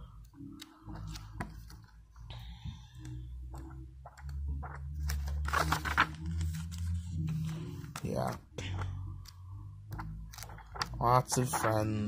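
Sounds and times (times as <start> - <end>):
paper pages rustling: 0.6 - 2.0, 3.5 - 12.0.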